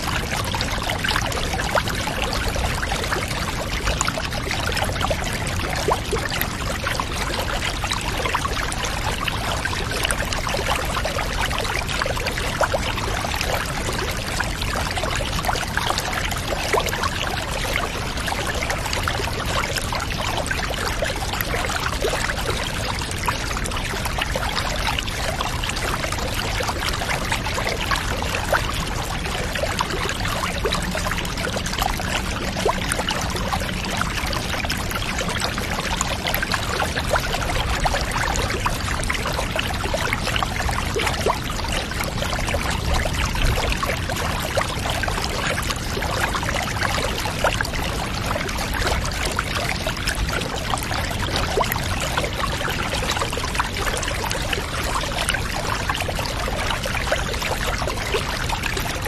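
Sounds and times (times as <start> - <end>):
small water splashes: 0.0 - 59.0
water pouring and trickling: 0.0 - 59.0.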